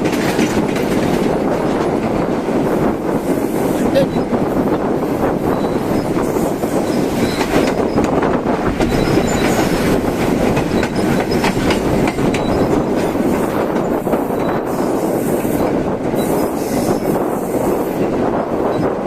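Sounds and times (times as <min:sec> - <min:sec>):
wheels clicking over rails: 0:00.0 - 0:17.3
train rumbling on track: 0:00.0 - 0:19.0.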